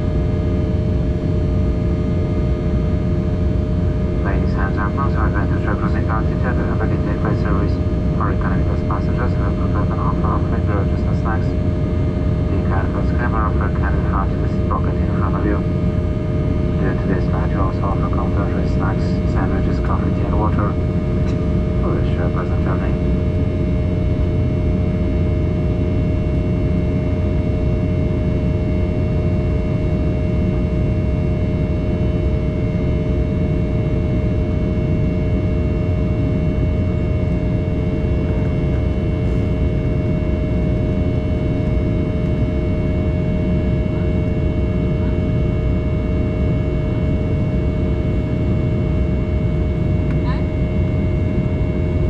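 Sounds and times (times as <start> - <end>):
airplane cabin airflow rush: 0.0 - 52.0
jet engine buzz: 0.0 - 52.0
steady humming tones: 0.0 - 52.0.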